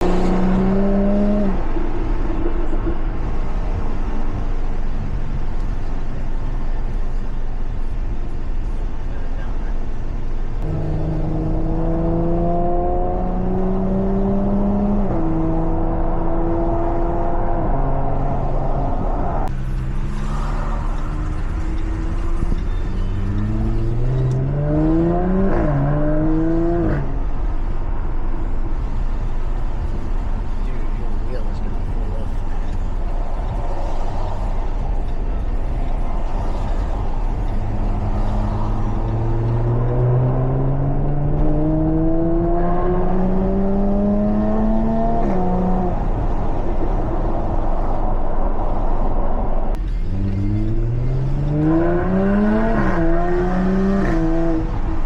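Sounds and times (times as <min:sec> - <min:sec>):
car engine rumbling: 0:00.0 - 0:55.0
road and wind noise: 0:00.0 - 0:55.0.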